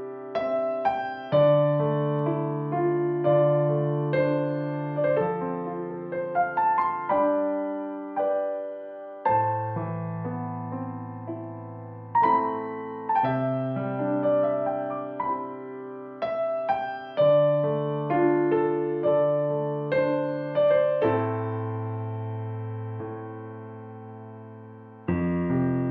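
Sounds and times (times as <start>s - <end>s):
slow piano piece: 0.0s - 25.9s.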